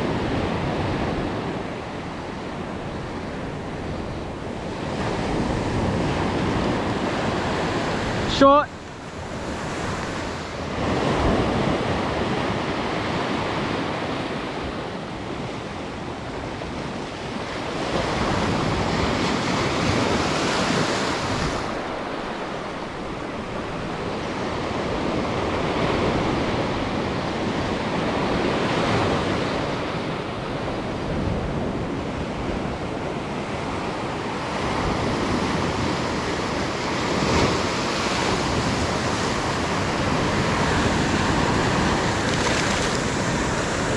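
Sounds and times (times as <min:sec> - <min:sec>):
ocean surf breaking: 0:00.0 - 0:43.9
wind on microphone: 0:00.0 - 0:43.9.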